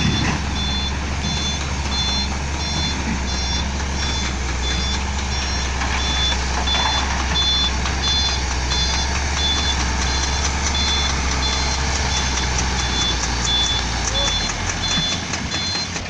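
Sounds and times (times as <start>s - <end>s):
diesel engine running: 0.0s - 16.0s
reversing alarm beeping: 0.0s - 16.0s.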